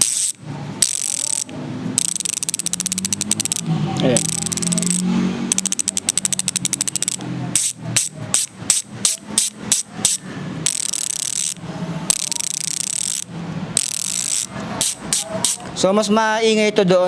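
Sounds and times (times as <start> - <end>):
bicycle hub ratcheting: 0.0 - 15.7
fast continuous buzzing: 0.0 - 15.7.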